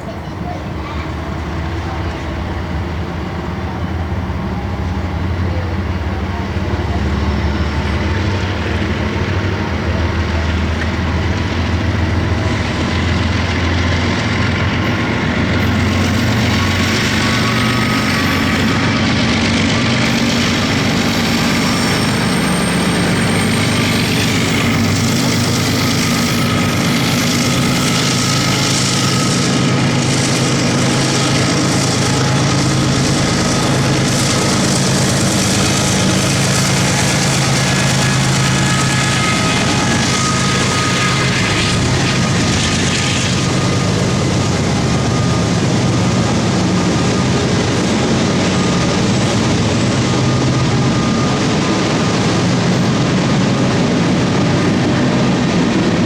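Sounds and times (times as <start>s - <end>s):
diesel locomotive engine drone: 0.0s - 56.0s
freight cars rumbling: 0.0s - 56.0s.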